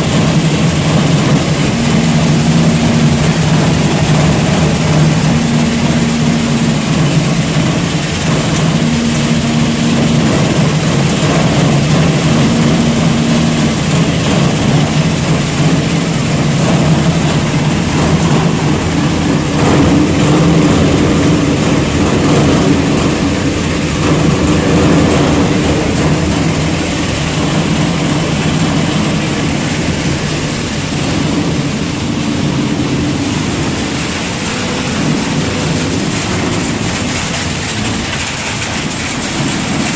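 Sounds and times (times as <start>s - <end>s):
higher machine tone: 0.0s - 39.9s
shredder machine drone: 0.0s - 39.9s.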